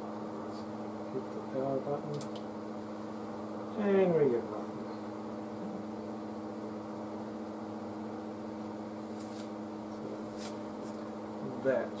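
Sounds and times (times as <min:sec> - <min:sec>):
steady electrical hum with tones: 0:00.0 - 0:12.0.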